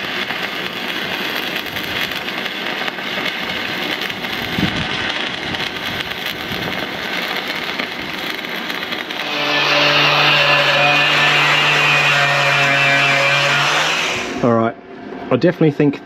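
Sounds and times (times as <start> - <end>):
welding arc crackling: 0.0 - 14.5
loud steady hum: 0.0 - 16.0.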